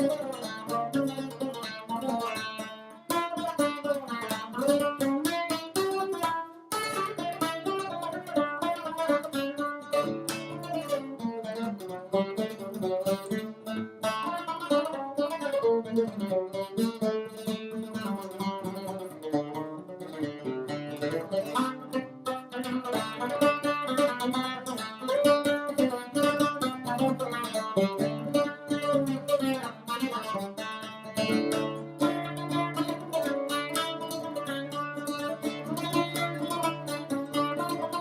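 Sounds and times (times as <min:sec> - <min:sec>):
plucked long-necked lute: 0:00.0 - 0:38.0.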